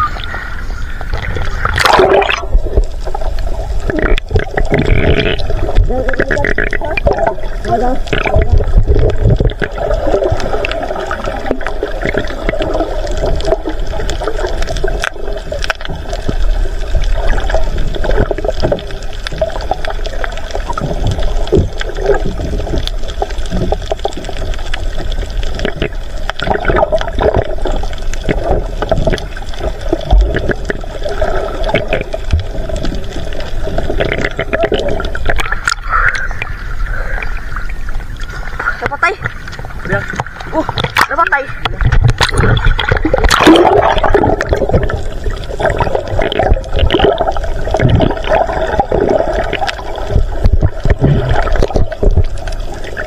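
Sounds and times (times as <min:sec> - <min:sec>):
muffled underwater rushing and gurgling: 0:00.0 - 0:53.0.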